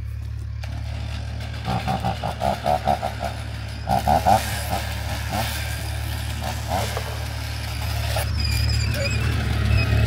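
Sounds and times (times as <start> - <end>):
engine idling: 0.0 - 10.0
loud uneven engine pulses: 0.0 - 10.0.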